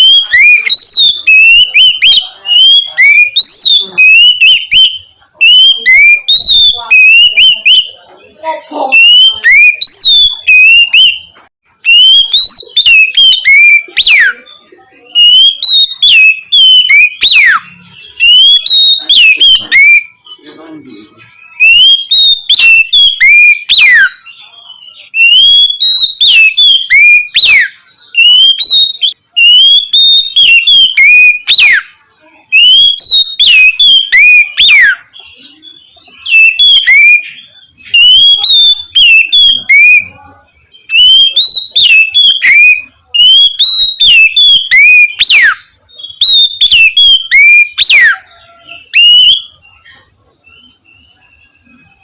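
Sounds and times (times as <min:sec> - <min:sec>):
bird singing whistled phrases: 0:00.0 - 0:52.0.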